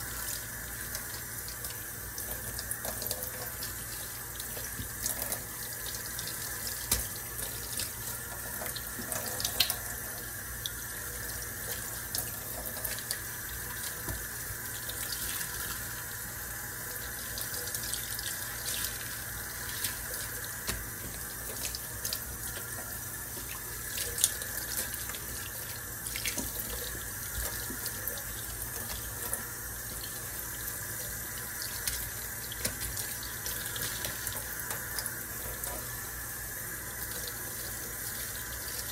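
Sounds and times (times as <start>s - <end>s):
water splashes and drips: 0.0s - 16.2s, 16.9s - 36.0s
faucet running into a metal sink: 0.0s - 38.9s.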